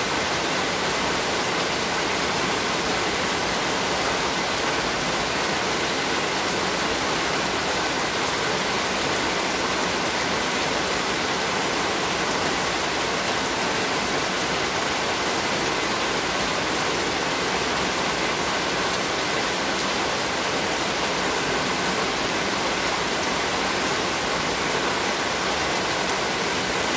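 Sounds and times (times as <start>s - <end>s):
heavy rain on floodwater: 0.0s - 26.9s.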